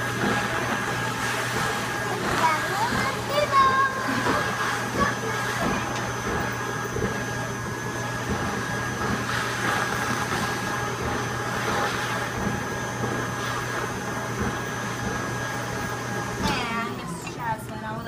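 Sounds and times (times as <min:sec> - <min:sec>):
stuffing machine blower humming: 0:00.0 - 0:18.0.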